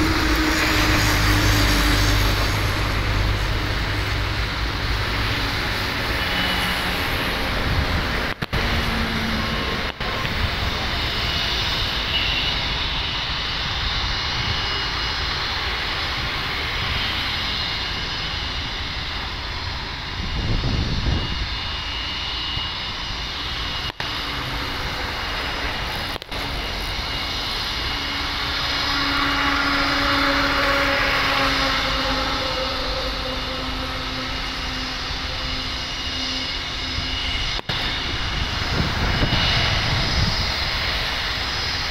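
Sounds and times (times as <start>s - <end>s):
distant airliner engines rumbling: 0.0s - 41.9s.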